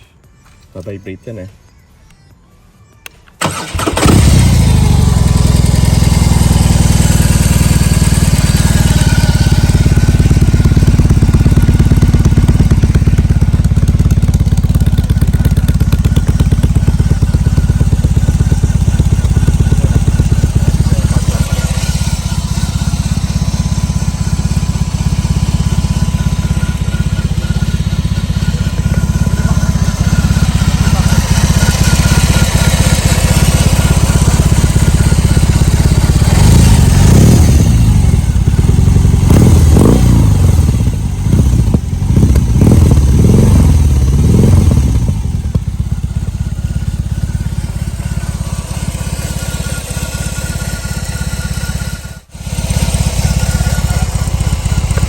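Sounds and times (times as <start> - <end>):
motorcycle engine idling: 3.4 - 55.0
motorcycle engine revving: 3.4 - 55.0.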